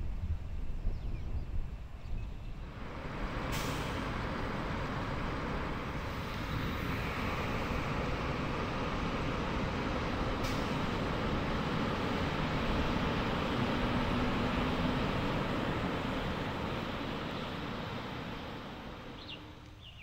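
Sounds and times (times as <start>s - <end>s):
fire engine running: 2.6s - 20.0s.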